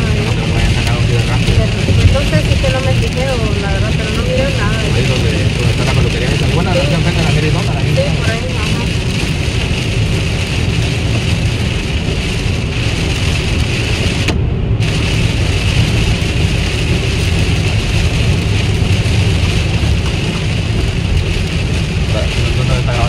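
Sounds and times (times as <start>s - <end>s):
engine and road rumble: 0.0s - 23.0s
tyres hissing on wet road: 0.0s - 23.0s.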